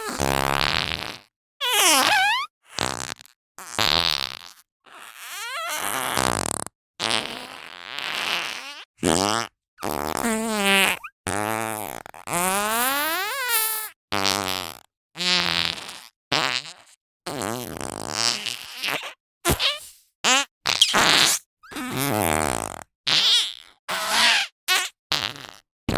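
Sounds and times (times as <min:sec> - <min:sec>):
cartoon fart sound effects: 0:00.0 - 0:04.5, 0:05.1 - 0:12.2, 0:13.4 - 0:25.9.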